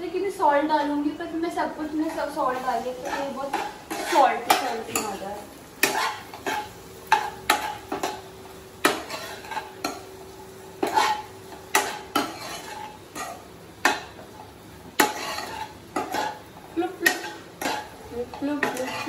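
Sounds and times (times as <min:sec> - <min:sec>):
food sizzling: 0:00.0 - 0:19.0
spoon scraping and knocking pan: 0:02.0 - 0:19.0.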